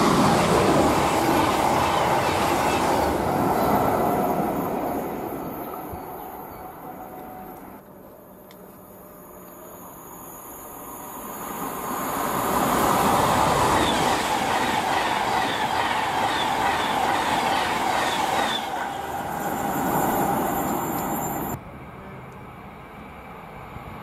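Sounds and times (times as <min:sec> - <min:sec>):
train passing: 0:00.0 - 0:24.0.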